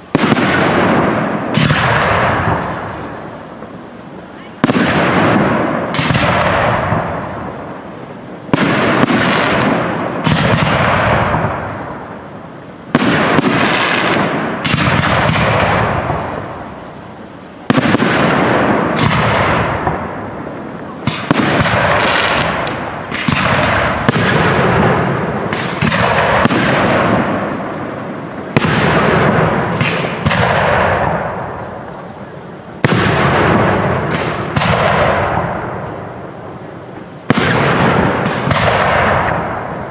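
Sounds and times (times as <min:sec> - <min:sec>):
firework bangs with rolling echo: 0:00.0 - 0:39.9.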